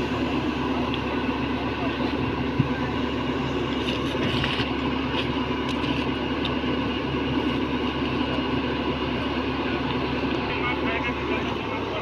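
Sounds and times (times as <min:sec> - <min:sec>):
diesel engine of heavy machinery: 0:00.0 - 0:12.0.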